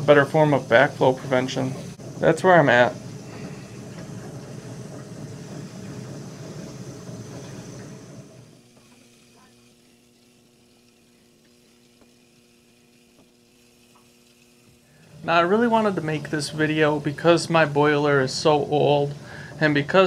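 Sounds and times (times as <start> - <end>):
gas boiler crackling hiss: 0.0 - 20.0.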